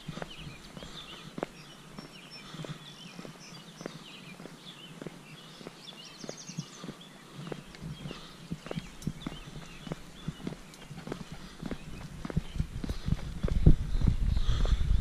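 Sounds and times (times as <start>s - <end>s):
footsteps walking: 0.0s - 14.8s
songbirds chirping: 0.0s - 15.0s.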